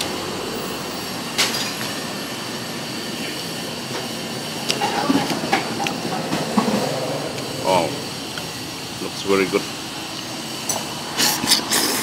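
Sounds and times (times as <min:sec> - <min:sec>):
street food eatery din: 0:00.0 - 0:12.0.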